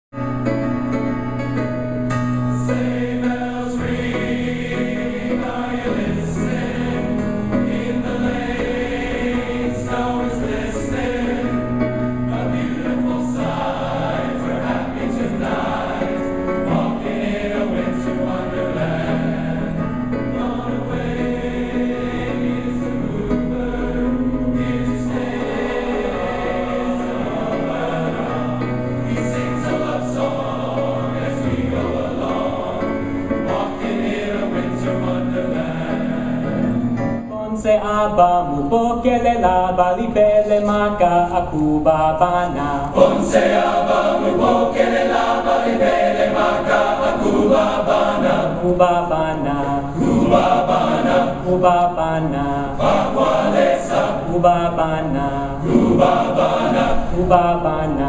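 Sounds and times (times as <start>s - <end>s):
men's chorus singing in harmony: 2.2s - 37.2s, 42.5s - 58.0s.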